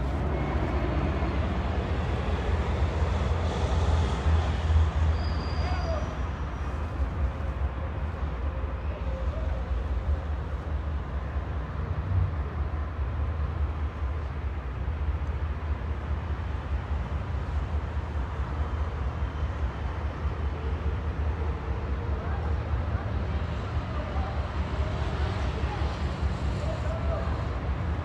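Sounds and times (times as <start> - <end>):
diesel train rumbling: 0.0 - 28.0.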